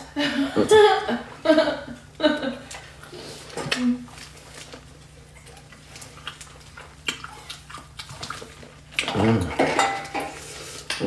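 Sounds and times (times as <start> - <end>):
wet eating sounds: 1.9 - 11.0.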